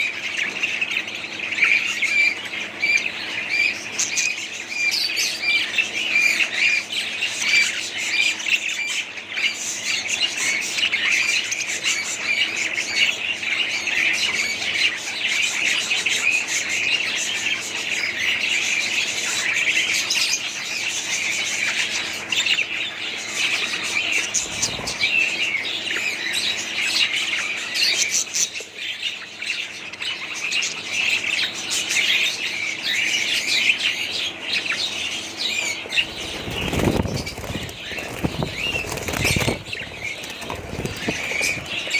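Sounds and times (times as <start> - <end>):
budgerigars chattering and chirping: 0.0 - 41.9.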